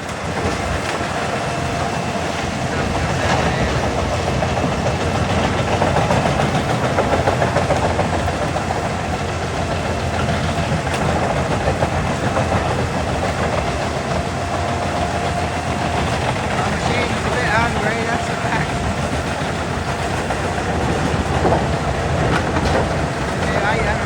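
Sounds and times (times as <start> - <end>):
wood chipper running: 0.0 - 24.0.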